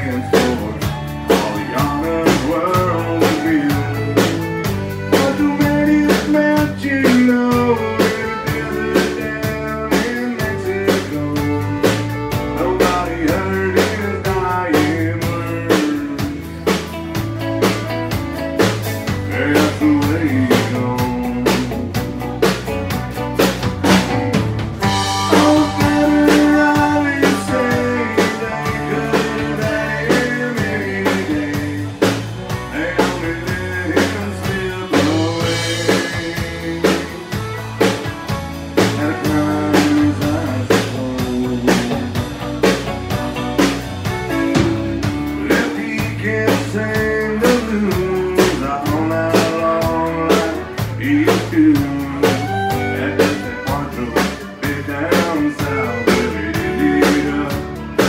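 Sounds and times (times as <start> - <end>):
drum kit beat: 0.0 - 58.0
lead melody with bending notes: 0.0 - 58.0.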